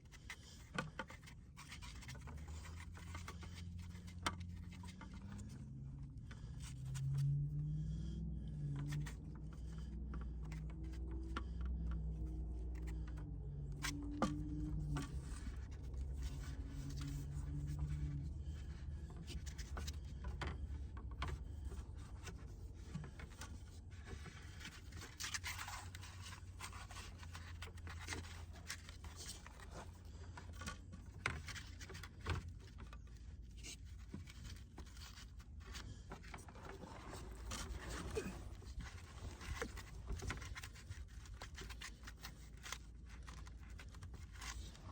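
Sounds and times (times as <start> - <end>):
scraping and rustling: 0.0 - 44.9.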